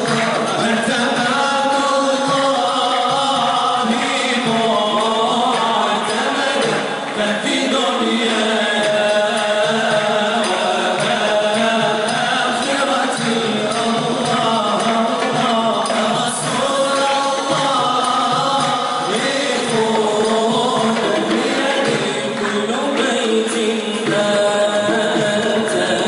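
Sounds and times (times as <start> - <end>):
frame drum: 0.0 - 26.0
men singing in unison chant: 0.0 - 26.0.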